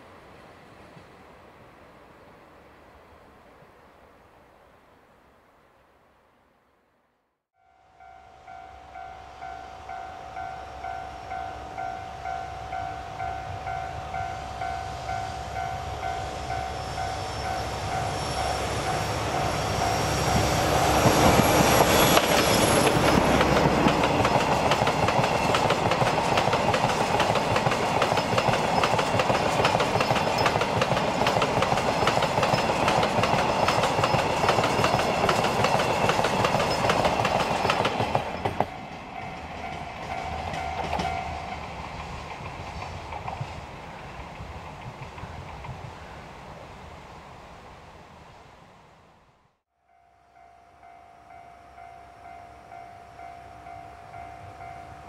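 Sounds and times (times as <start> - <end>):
diesel locomotive passing: 7.6 - 47.3, 49.8 - 55.0.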